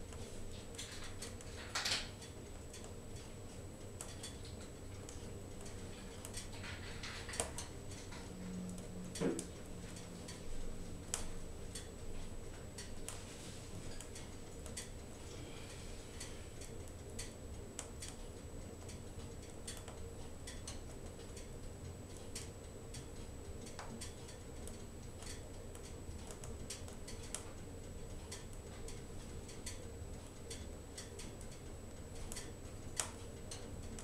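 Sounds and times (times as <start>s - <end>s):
wood fire crackling in stove: 0.0s - 34.0s.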